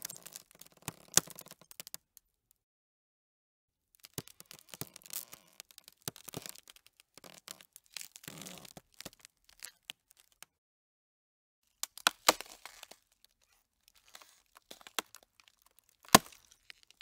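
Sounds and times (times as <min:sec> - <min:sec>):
ice creaking and cracking: 0:00.0 - 0:02.1, 0:04.0 - 0:10.5, 0:11.8 - 0:17.0.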